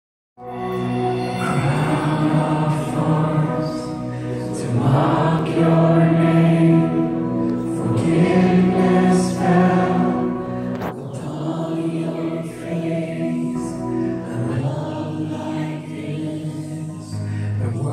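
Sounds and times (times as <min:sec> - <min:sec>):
band playing worship music: 0:00.4 - 0:17.9
voices singing long notes: 0:00.4 - 0:17.9.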